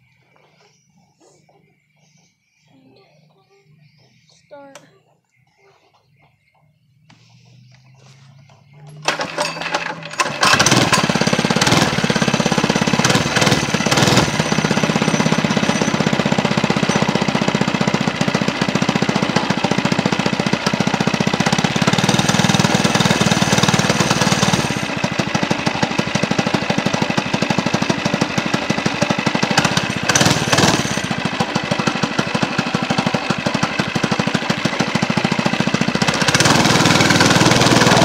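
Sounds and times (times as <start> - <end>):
motorcycle engine running: 6.1 - 38.0.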